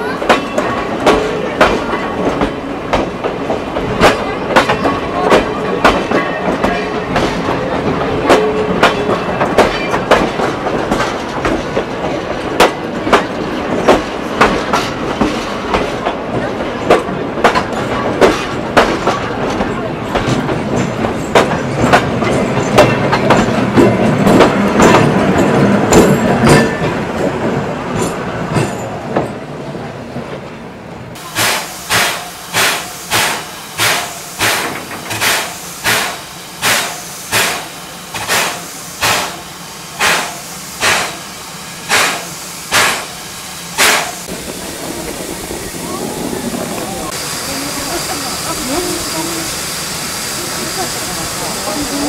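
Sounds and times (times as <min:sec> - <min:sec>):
wheels clacking over rail joints: 0:00.0 - 0:29.5, 0:31.2 - 0:49.0
train rumbling: 0:00.0 - 0:52.0.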